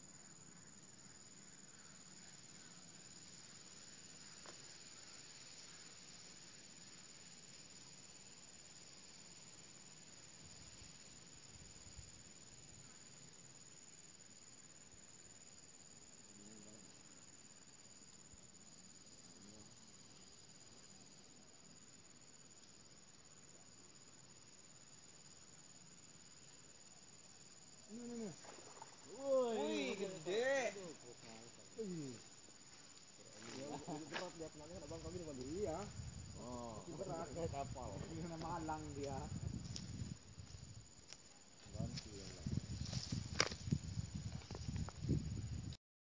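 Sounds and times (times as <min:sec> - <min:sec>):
high-pitched insect drone: 0:00.0 - 0:45.8.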